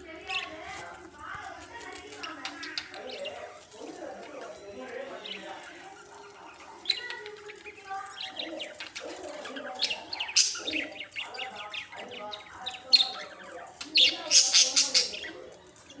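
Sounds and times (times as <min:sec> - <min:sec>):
budgerigars chattering: 0:00.0 - 0:01.0, 0:01.7 - 0:16.0.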